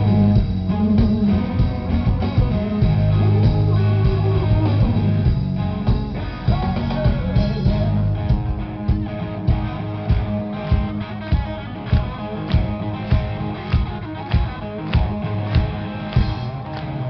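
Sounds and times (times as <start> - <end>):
drum beat: 0.0 - 17.0
electric guitars: 0.0 - 17.0.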